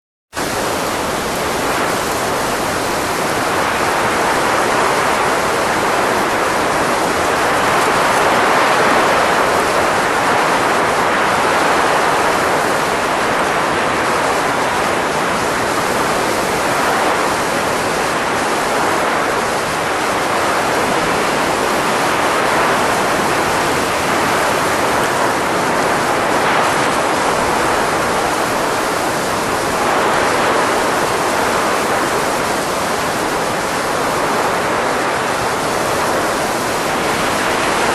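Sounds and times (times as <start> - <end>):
steady rushing air: 0.4 - 37.9.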